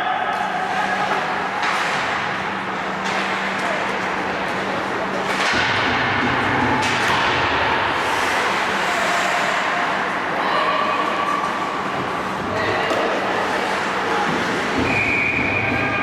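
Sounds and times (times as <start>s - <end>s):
skates on ice: 0.7s - 16.0s.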